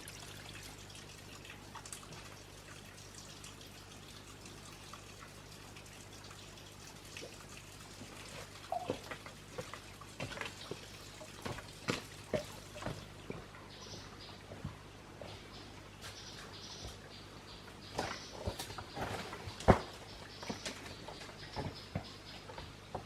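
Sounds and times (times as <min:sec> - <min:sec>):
water dripping and trickling: 0:00.0 - 0:23.0.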